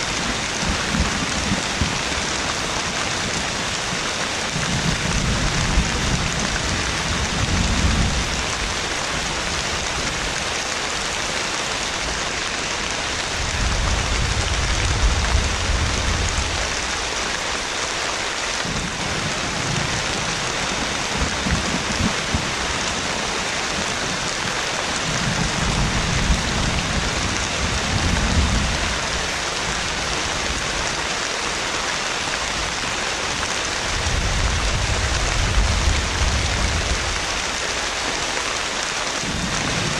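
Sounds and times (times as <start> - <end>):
thunder rumbling: 0.0 - 11.1, 11.7 - 17.7, 18.6 - 31.1, 32.1 - 38.0, 39.2 - 39.9
heavy rain falling: 0.0 - 39.9.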